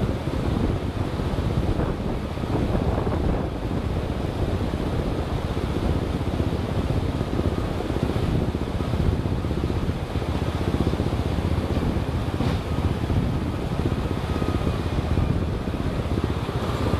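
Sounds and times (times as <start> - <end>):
moving vehicle running noise: 0.0 - 16.9
wind noise on microphone: 0.0 - 16.9.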